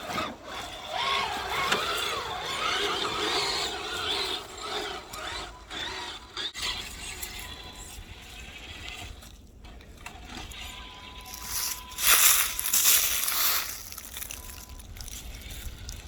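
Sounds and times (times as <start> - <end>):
electric motor and gearbox whining: 0.0 - 16.0.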